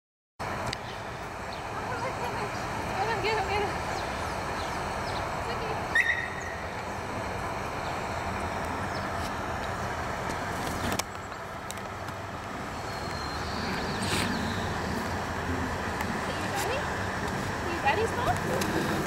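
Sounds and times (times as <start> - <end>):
outdoor background noise: 0.4 - 19.0.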